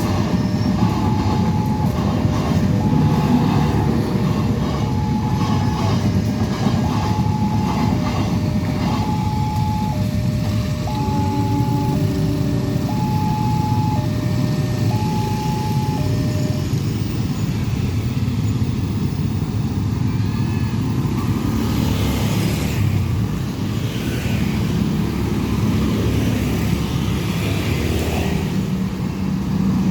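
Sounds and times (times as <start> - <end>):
road traffic rumble: 0.0 - 29.9.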